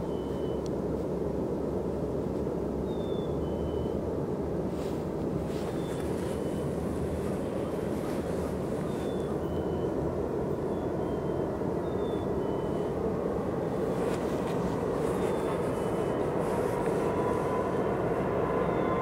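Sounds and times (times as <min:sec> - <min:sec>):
distant diesel locomotive rumble: 0:00.0 - 0:19.0.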